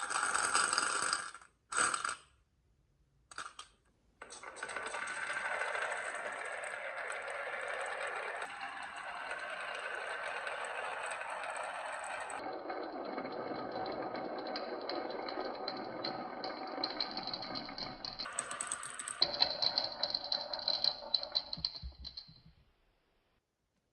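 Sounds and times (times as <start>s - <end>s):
marbles rolling on a track: 0.0s - 2.2s, 4.2s - 22.4s.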